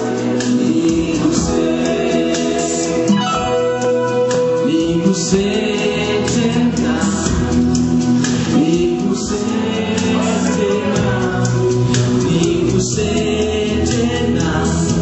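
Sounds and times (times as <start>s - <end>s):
electronic keyboard: 0.0s - 15.0s
voices singing together: 0.0s - 15.0s.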